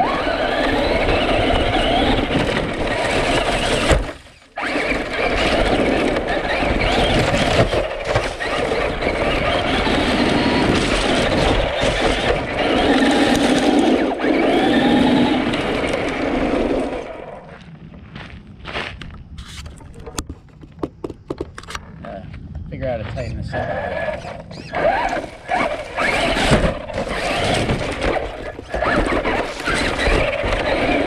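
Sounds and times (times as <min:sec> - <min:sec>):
electric motor and gears whining: 0:00.0 - 0:18.1, 0:19.0 - 0:31.0.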